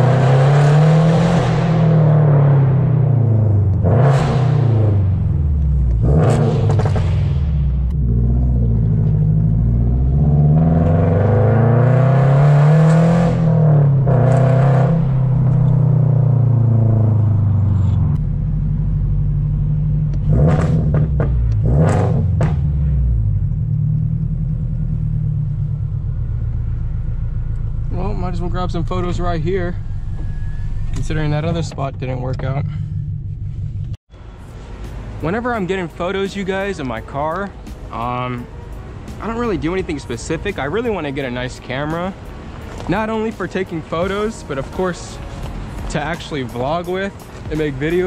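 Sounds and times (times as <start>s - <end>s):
car exhaust accelerating: 0.0s - 48.0s.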